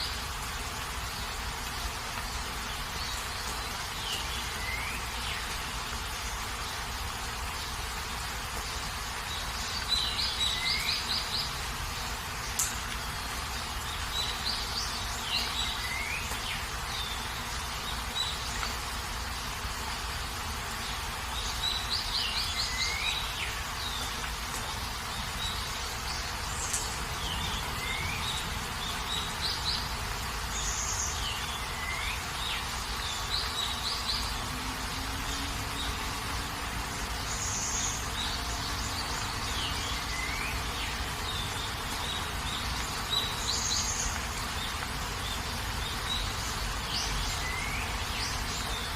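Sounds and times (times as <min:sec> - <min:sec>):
birds chirping and trilling: 0:00.0 - 0:48.9
steady rain hiss: 0:00.0 - 0:48.9.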